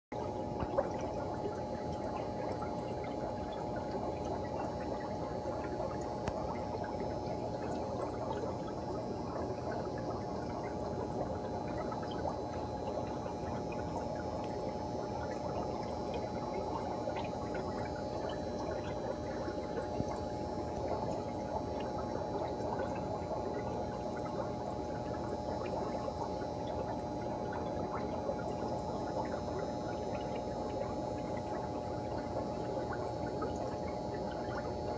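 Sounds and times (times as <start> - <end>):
aquarium filters bubbling: 0.1 - 34.9
steady hum: 0.1 - 34.9.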